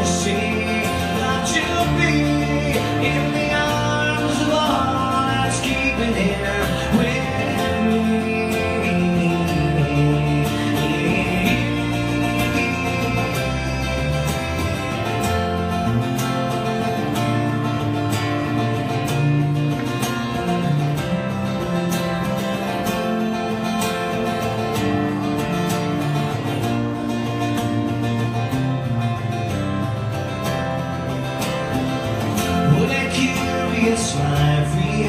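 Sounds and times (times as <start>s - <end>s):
acoustic guitar strumming: 0.0s - 35.0s
electric bass low notes: 0.0s - 35.0s.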